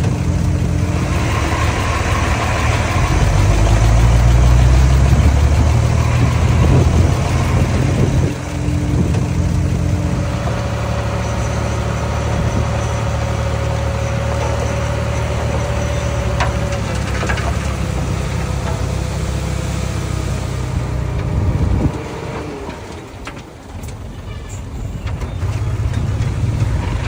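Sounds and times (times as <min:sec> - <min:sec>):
heavy machinery diesel engine running: 0:00.0 - 0:27.0.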